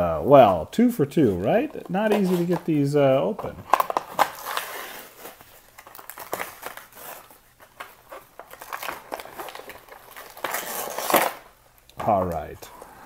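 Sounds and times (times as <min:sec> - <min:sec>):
plastic packaging crinkling: 0:01.5 - 0:12.6.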